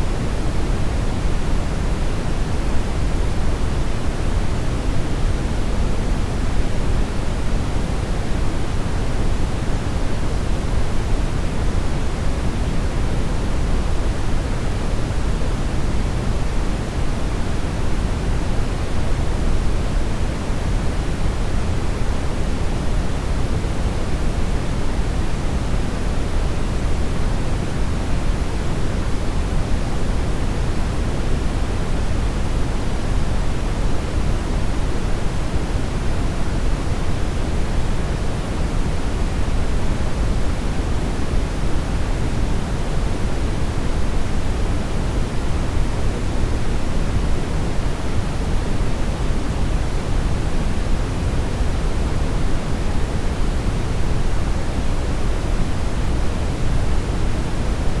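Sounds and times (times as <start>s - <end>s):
brown noise hiss and rumble: 0.0s - 58.0s.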